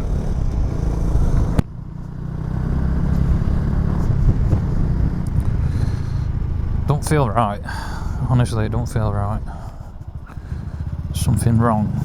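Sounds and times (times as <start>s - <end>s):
motorcycle engine while riding: 0.0s - 12.0s
wind rumble: 0.0s - 12.0s.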